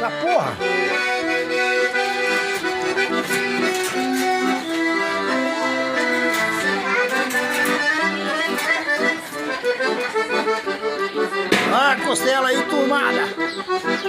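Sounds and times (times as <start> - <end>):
accordion playing a tune: 0.0 - 14.0.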